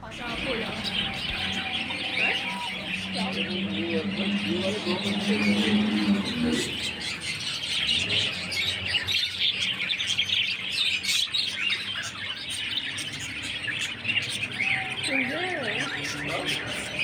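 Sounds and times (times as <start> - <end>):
parrots chirping and chattering: 0.0 - 17.0.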